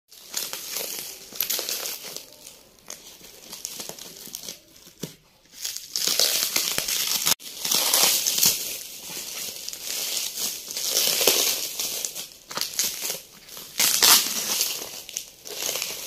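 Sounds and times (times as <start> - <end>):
plastic wrap crinkling: 0.1 - 16.0.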